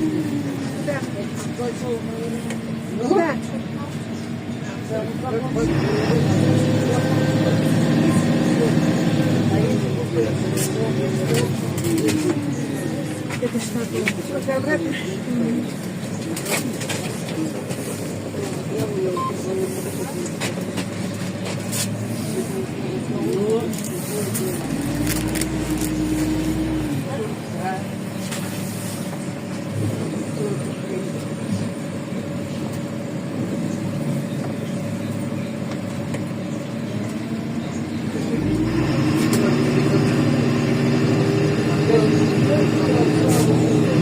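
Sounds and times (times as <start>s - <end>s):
bus diesel engine rumbling: 0.0s - 44.0s
road noise: 0.0s - 44.0s.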